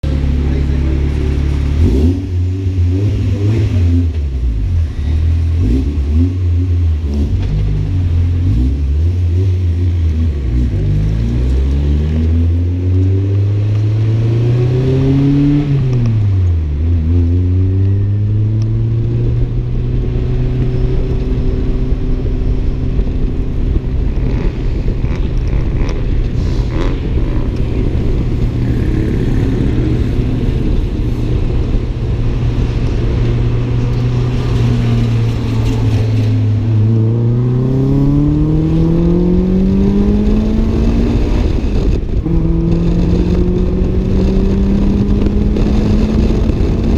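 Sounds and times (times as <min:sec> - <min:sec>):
car engine revving under load: 0:00.0 - 0:46.9.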